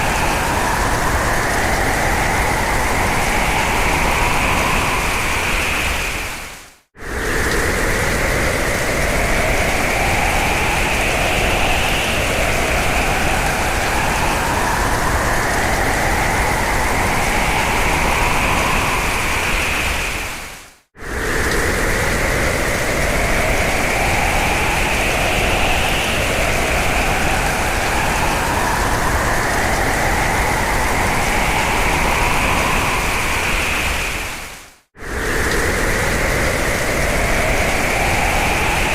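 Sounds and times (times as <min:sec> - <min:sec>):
hurricane wind howling: 0:00.0 - 0:38.9.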